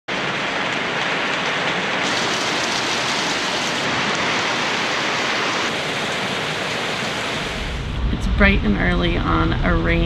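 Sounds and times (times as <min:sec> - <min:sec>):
heavy rain on boat and water: 0:00.1 - 0:10.0.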